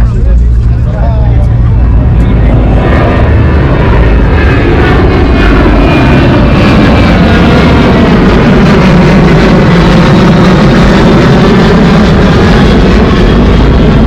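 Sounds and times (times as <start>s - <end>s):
loud steady vehicle noise: 0.0s - 14.0s.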